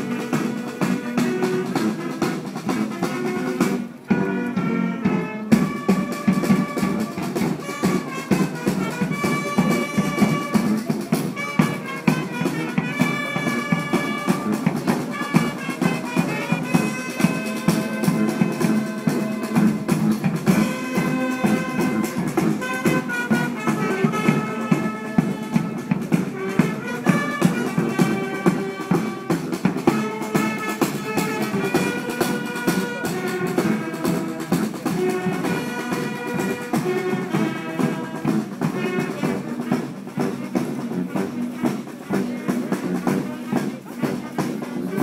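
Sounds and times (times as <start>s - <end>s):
marching band playing: 0.0s - 45.0s
steady drumbeat: 0.0s - 45.0s.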